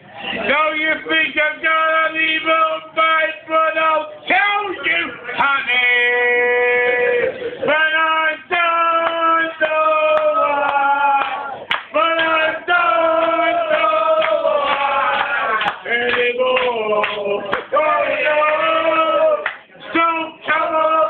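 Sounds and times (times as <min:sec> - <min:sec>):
man singing unaccompanied: 0:00.5 - 0:21.0.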